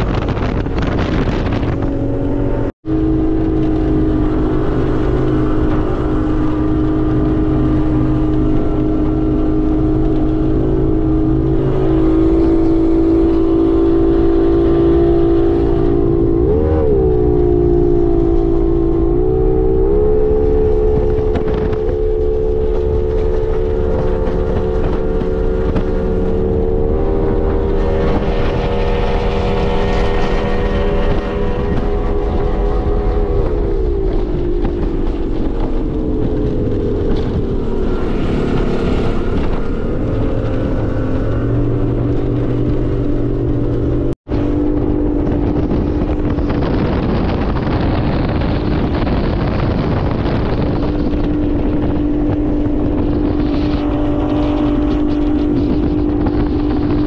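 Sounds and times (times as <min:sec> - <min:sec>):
outboard motor running fast: 0:00.0 - 0:57.0.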